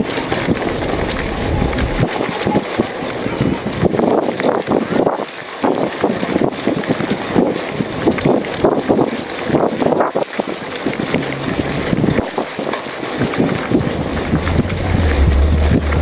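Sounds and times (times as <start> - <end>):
bike rattling: 0.0 - 16.0
tyres on loose gravel: 0.0 - 16.0
wind buffeting microphone: 0.0 - 16.0.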